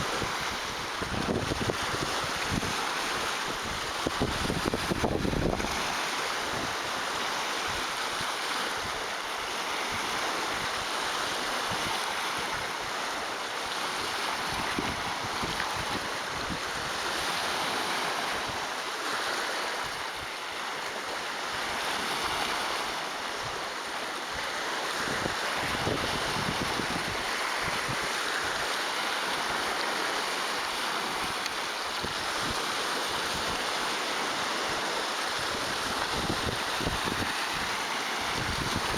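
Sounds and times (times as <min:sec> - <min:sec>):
waves breaking on rocks: 0:00.0 - 0:38.9.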